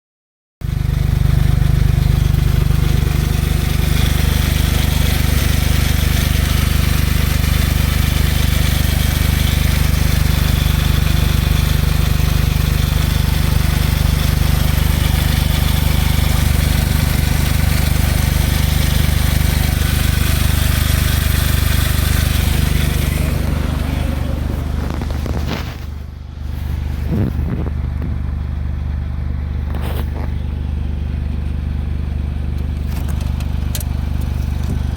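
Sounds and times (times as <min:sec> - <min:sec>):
car engine idling: 0:00.6 - 0:34.9
engine clacking: 0:00.6 - 0:34.9.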